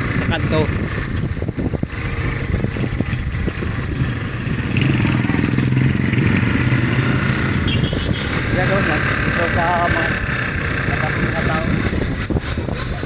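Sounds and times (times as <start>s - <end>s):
nearby engine humming: 0.0s - 13.0s
street traffic engines: 0.0s - 13.0s.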